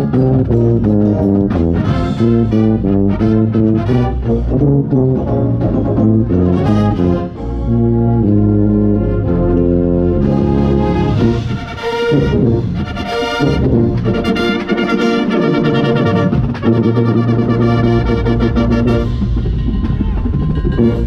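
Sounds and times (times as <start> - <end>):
brass line playing chords: 0.0 - 21.0
tuba low notes: 0.0 - 21.0.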